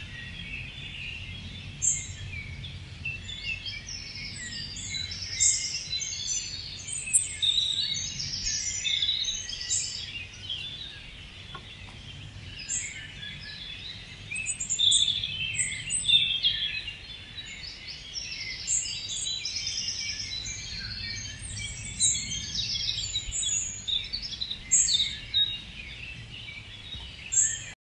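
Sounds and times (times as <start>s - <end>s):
songbirds chirping and trilling: 0.0s - 27.8s.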